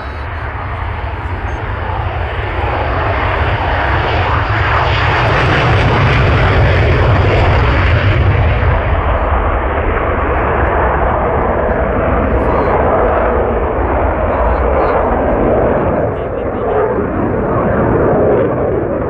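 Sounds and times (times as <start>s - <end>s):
jet engine roaring: 0.0s - 19.0s.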